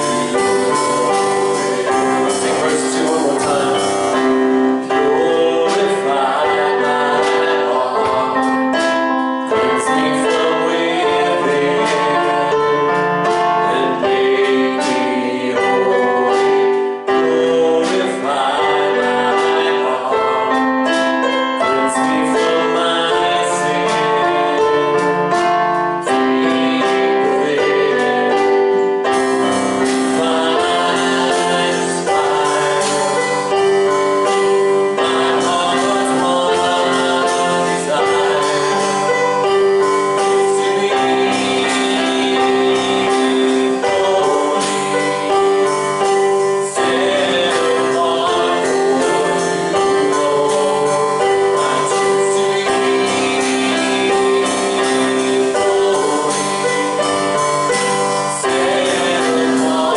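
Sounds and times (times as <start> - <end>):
singing: 0.0 - 29.2, 29.8 - 59.9
piano playing sustained chords: 0.0 - 59.9.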